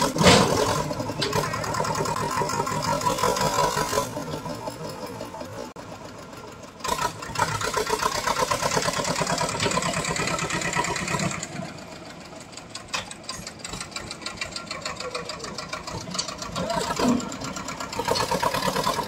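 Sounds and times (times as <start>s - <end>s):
tractor diesel engine chugging: 0.0s - 19.0s.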